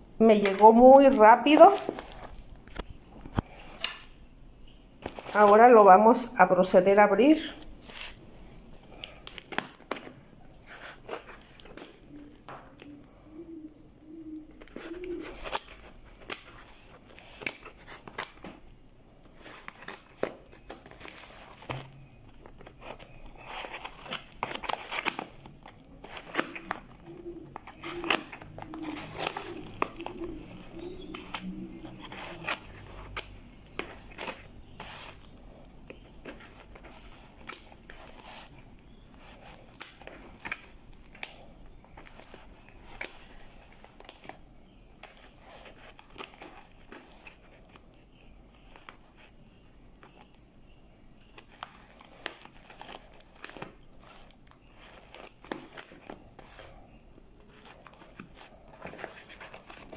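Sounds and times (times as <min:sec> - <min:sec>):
plastic wrapping crinkling: 0:00.3 - 0:04.2, 0:07.4 - 0:12.9, 0:14.5 - 0:50.4, 0:51.2 - 0:59.9.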